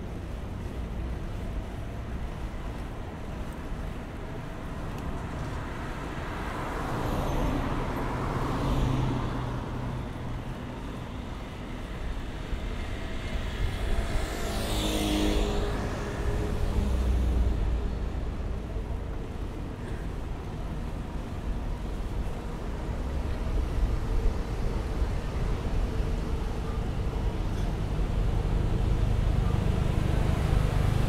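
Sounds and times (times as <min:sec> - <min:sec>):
steady hum of cars: 0:00.0 - 0:31.0
vehicles passing by: 0:00.0 - 0:31.0.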